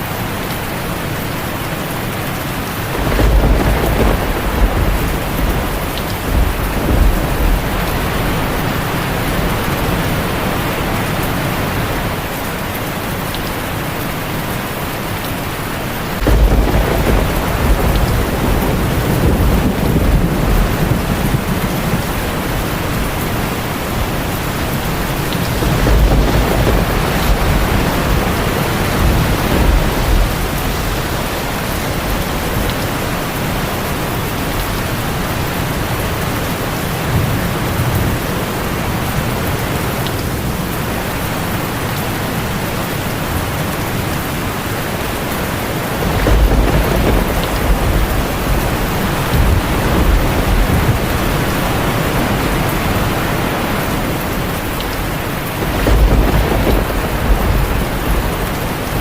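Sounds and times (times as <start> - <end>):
heavy rain on a tin roof: 0.0 - 59.0
thunder rumbling: 2.6 - 59.0.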